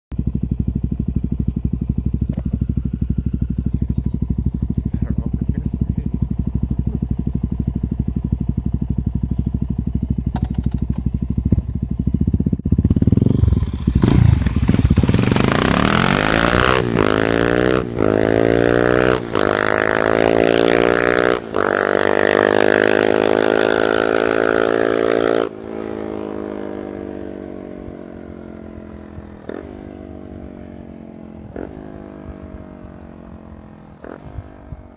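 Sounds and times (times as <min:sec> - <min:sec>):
motorcycle engine idling: 0:00.1 - 0:22.3, 0:25.6 - 0:34.9
motorcycle accelerating through gears: 0:00.1 - 0:34.9.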